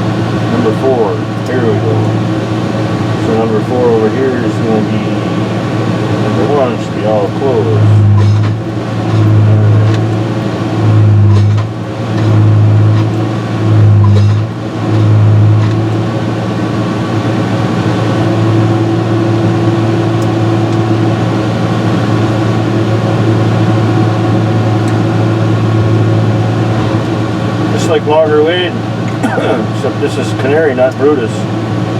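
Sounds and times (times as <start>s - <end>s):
harvester engine humming: 0.0s - 31.9s.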